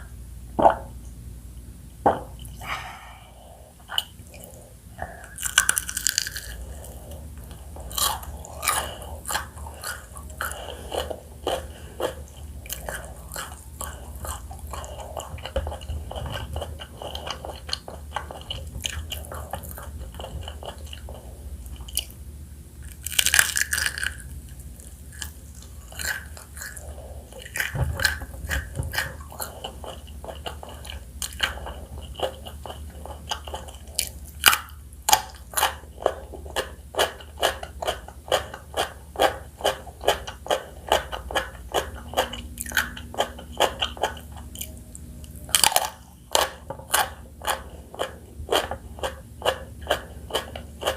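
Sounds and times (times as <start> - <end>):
crunchy chewing of fried chicken: 3.7 - 50.9.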